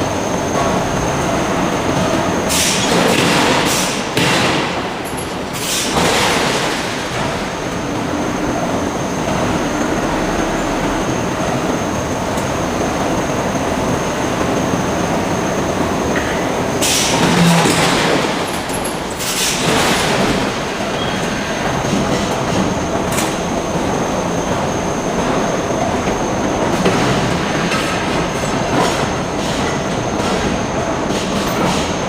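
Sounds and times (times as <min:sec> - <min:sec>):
loud machinery noise: 0:00.0 - 0:32.0.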